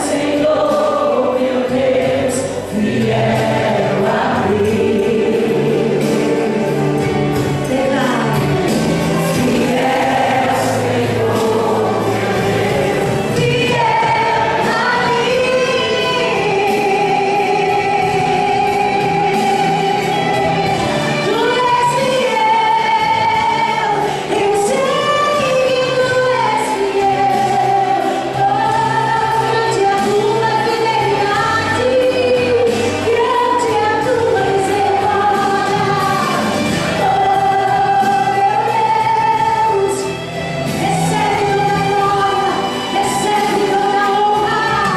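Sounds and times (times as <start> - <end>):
church choir singing a hymn: 0.0 - 39.1
instrumental accompaniment: 0.0 - 44.9.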